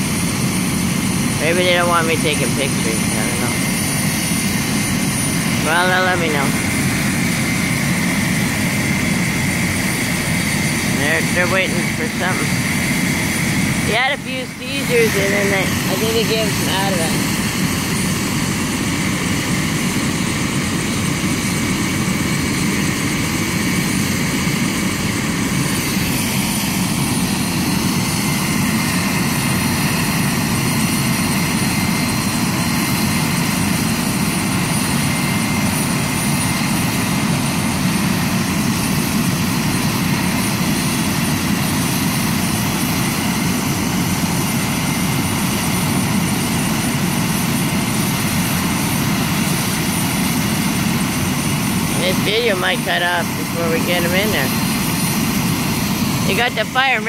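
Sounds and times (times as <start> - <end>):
helicopter turbine engine running: 0.0 - 57.0.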